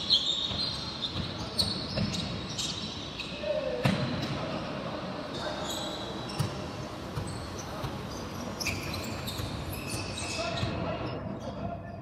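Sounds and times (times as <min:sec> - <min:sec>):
sneakers squeaking on hardwood: 0:00.0 - 0:11.2.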